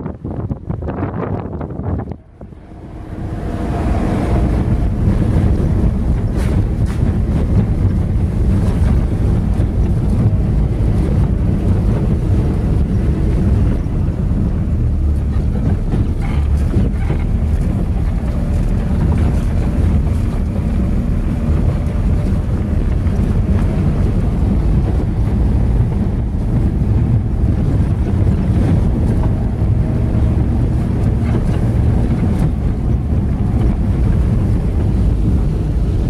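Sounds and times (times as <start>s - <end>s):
car driving on dirt road: 0.0s - 36.0s.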